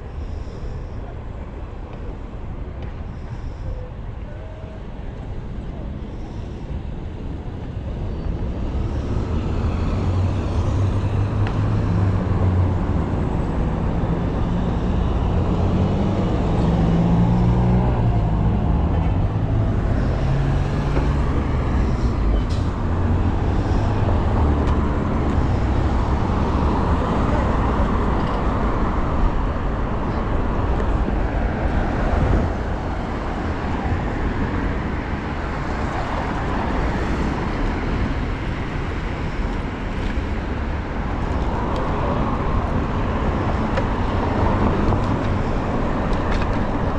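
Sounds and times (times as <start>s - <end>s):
heavy vehicle engine humming: 0.0s - 46.9s
passing cars and road noise: 0.0s - 46.9s.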